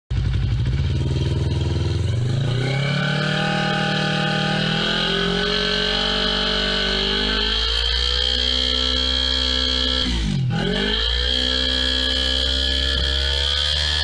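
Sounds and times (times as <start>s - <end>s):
motorcycle engine revving: 0.1s - 14.0s.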